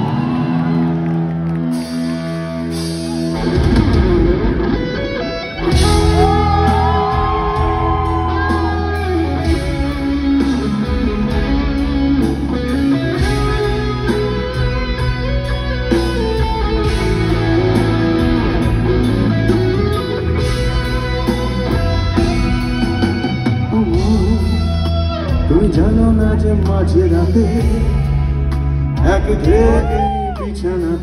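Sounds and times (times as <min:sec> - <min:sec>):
gliding guitar lead melody: 0:00.0 - 0:31.0
live band playing: 0:00.0 - 0:31.0.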